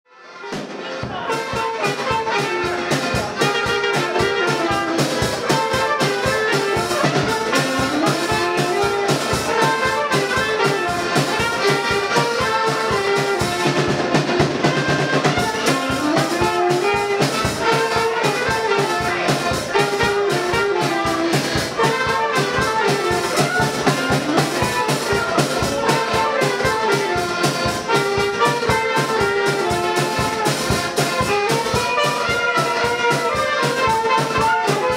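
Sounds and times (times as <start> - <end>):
saxophone: 0.1 - 34.9
accordions playing melody: 0.2 - 34.9
drum kit beat: 0.3 - 34.9.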